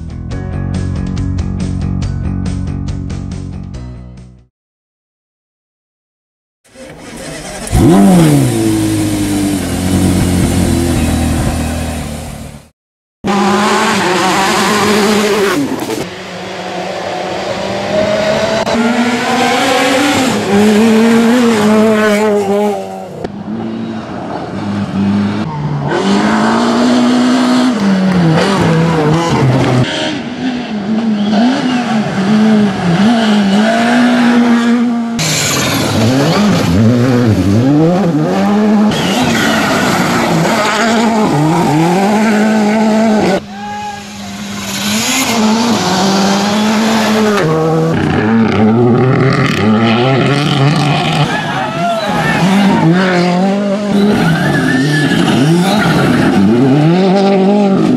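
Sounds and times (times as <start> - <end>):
rally car engines revving: 6.7 - 12.6, 13.2 - 57.9.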